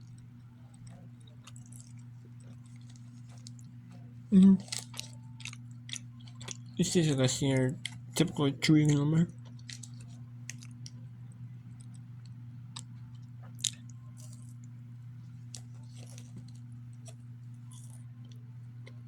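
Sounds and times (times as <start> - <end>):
person chewing with crunches: 0.0 - 11.0, 11.7 - 14.7, 15.3 - 19.0
steady low hum: 0.0 - 19.0.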